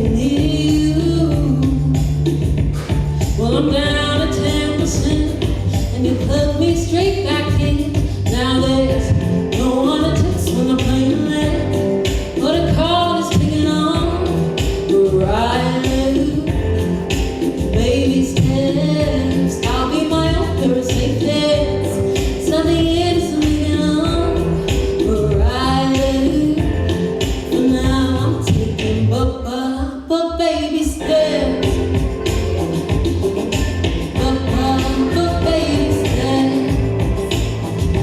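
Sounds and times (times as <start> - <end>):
band beat and bass: 0.0 - 29.5, 30.4 - 38.0
woman singing lead: 0.0 - 38.0.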